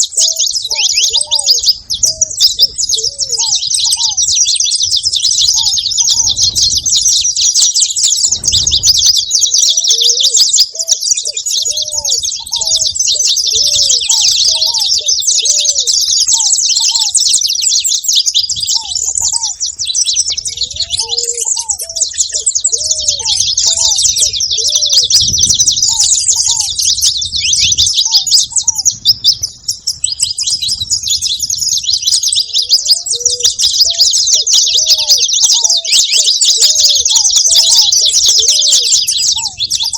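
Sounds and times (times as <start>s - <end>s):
finch twittering: 0.0s - 39.9s
lower slurred bird notes: 0.0s - 39.9s.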